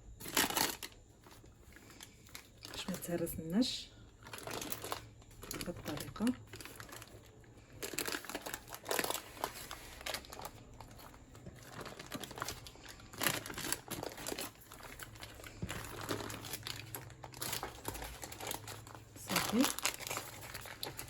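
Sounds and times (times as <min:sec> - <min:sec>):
baking paper crinkling: 0:00.1 - 0:21.0.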